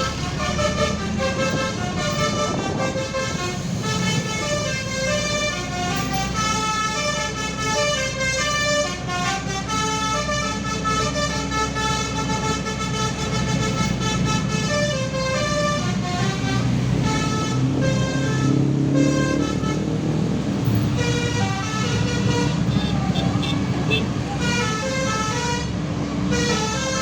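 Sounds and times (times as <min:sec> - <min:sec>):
bus engine rumble: 0:00.0 - 0:27.0
multi-tone air horn tune: 0:00.0 - 0:27.0.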